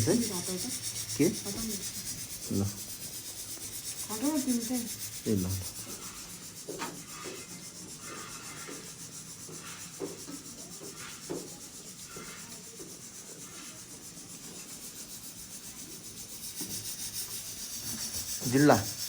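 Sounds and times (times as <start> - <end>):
food sizzling in oil: 0.0 - 19.0
spatula scraping: 0.0 - 19.0.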